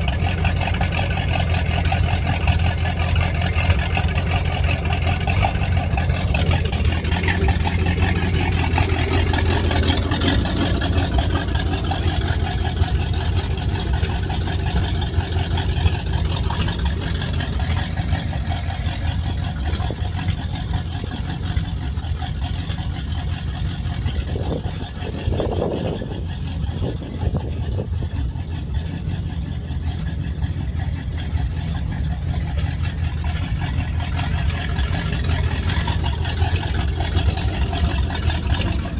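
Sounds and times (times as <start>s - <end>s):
boat engine idling: 0.0s - 38.9s.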